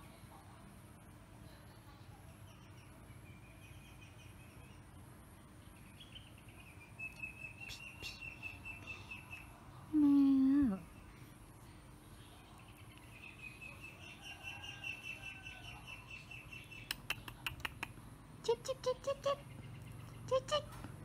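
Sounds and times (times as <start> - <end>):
small birds chirping: 1.7 - 21.0.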